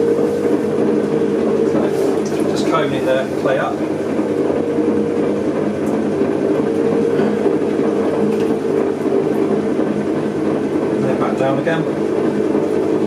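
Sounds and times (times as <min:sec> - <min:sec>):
potter's wheel motor hum: 0:00.0 - 0:13.0
wet clay on wheel: 0:00.0 - 0:13.0.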